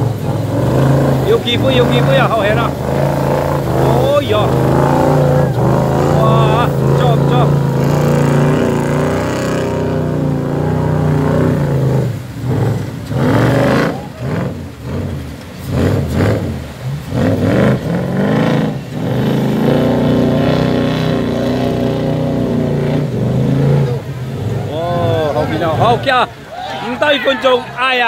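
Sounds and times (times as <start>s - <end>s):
truck engine revving: 0.0s - 26.5s
water splashing around wheels: 0.0s - 28.0s.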